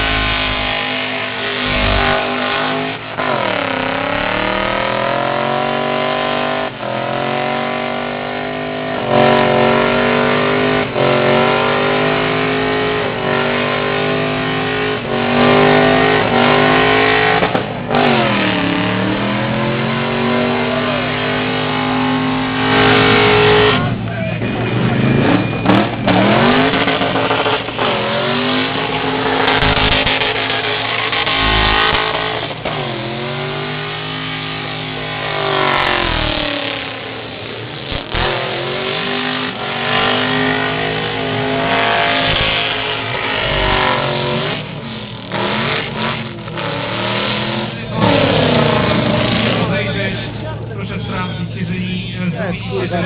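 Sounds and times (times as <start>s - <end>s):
car engine at high revs: 0.0s - 53.0s.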